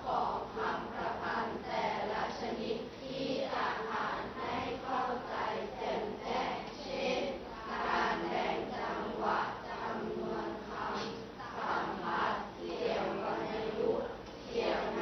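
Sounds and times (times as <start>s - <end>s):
students reading aloud in unison: 0.0s - 15.0s.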